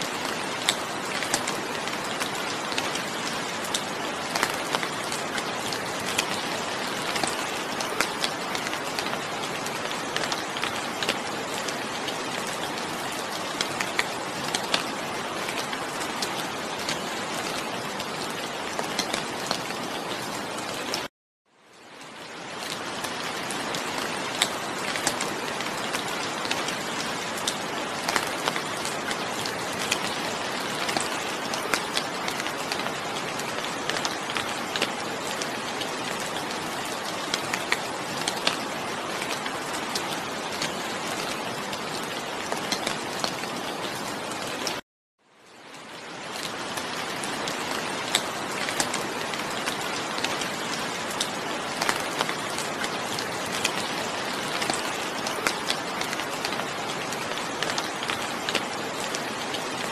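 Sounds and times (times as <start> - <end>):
rain on hard surface: 0.0 - 59.9.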